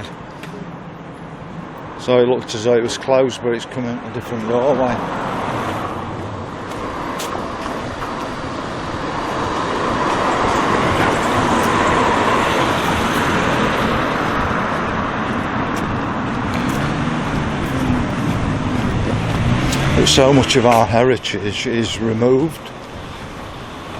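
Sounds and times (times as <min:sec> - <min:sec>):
road traffic: 0:00.0 - 0:23.9
vehicle passing: 0:03.8 - 0:23.9.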